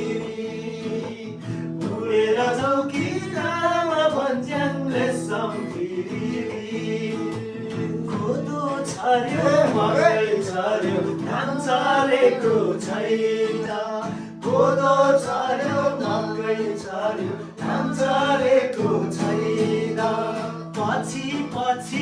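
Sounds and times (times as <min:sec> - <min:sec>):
men singing: 0:00.0 - 0:22.0.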